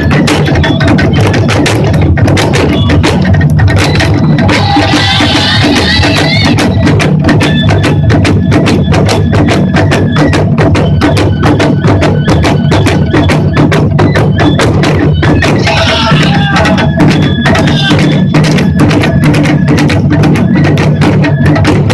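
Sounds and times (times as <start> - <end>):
taiko drums in fast rhythm: 0.0 - 21.9.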